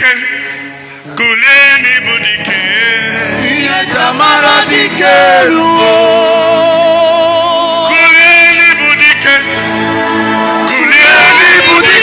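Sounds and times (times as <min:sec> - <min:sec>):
man singing worship chorus: 0:00.0 - 0:12.0
instrumental backing: 0:00.1 - 0:12.0.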